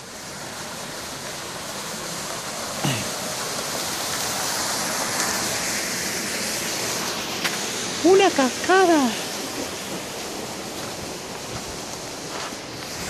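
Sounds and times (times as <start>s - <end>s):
waterfall splashing over rocks: 0.0s - 13.0s.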